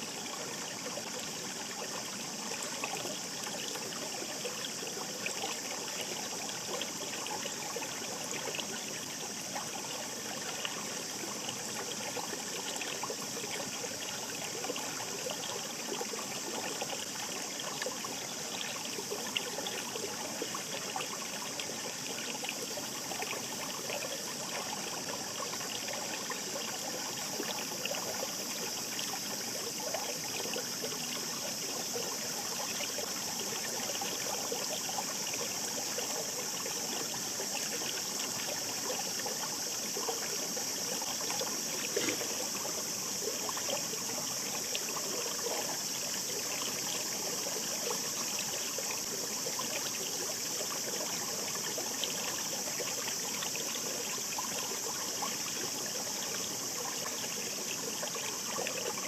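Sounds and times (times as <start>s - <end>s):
stream babbling over stones: 0.0s - 59.0s
water splashes and gurgles: 0.0s - 59.0s.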